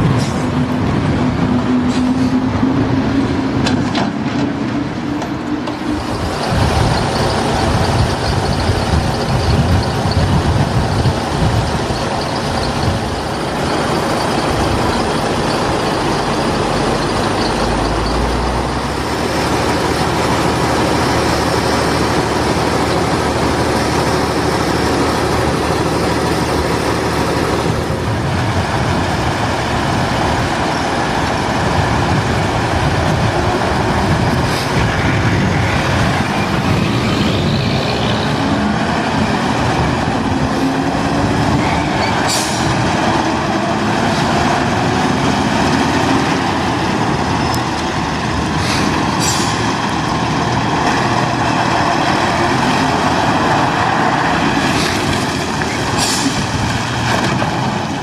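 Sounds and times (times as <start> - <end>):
diesel truck engines droning: 0.0 - 58.0.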